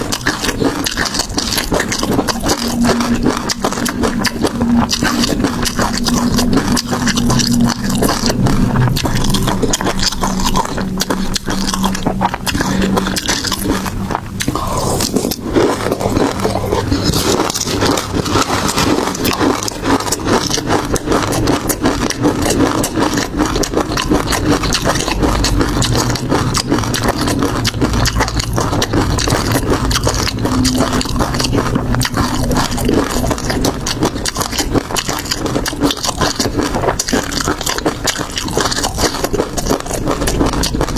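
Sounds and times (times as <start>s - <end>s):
wet chewing and biting: 0.0s - 40.9s.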